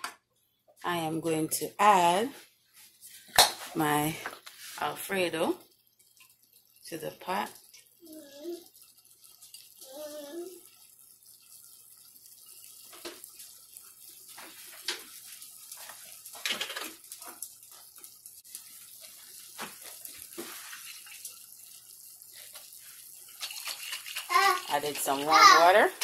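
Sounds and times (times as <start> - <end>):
tap water running into glass jar: 4.7 - 26.0.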